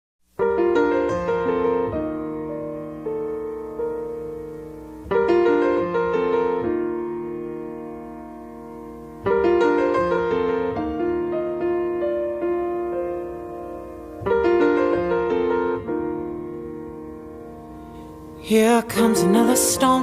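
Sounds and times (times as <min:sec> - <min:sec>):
slow solo piano music: 0:00.4 - 0:20.0.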